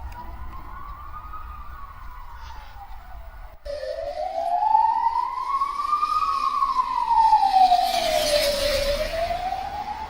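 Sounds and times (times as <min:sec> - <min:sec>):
rising and falling siren-like tone: 0:00.0 - 0:10.0.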